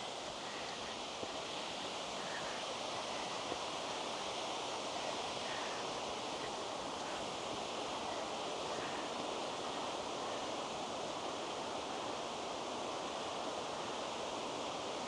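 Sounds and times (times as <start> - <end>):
creek and waterfall rushing: 0.0 - 15.0.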